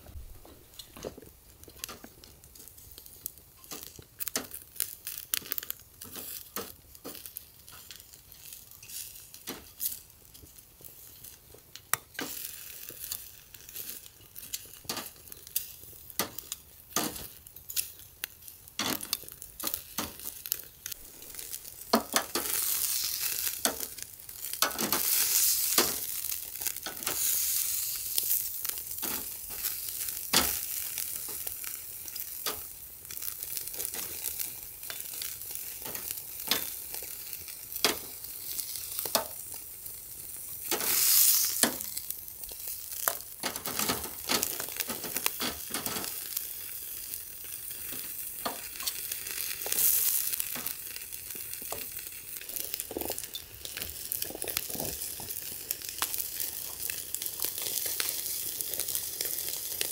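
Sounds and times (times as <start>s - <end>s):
sizzling hiss: 0.0s - 59.9s
wood fire crackling and snapping: 0.0s - 59.9s.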